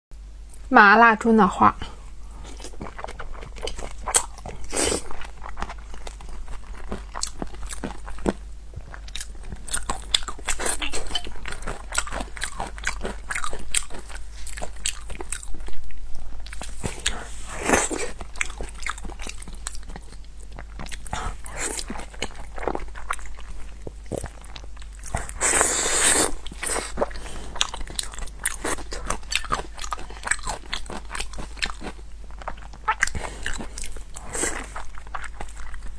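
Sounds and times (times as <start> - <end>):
chewing crisp food: 1.8 - 35.9.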